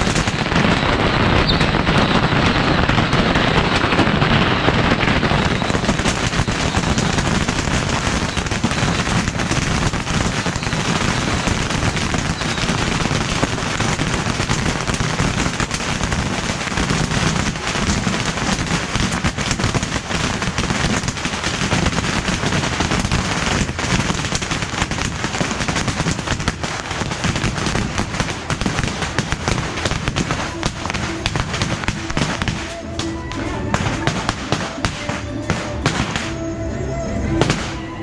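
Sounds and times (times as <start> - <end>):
firecrackers crackling: 0.0 - 38.0.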